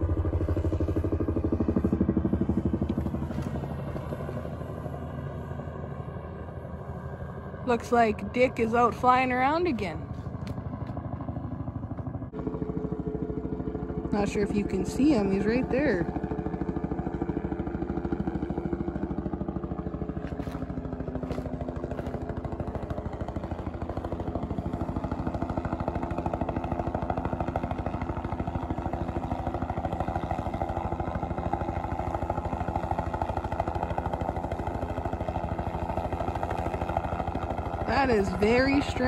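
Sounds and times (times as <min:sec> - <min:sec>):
helicopter rotor chop: 0:00.0 - 0:39.0.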